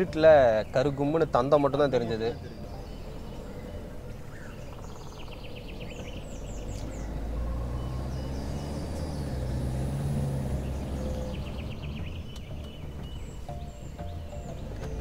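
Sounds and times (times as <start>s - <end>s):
birds chirping trills: 0.0s - 15.0s
car engine and tyre rumble: 0.0s - 15.0s.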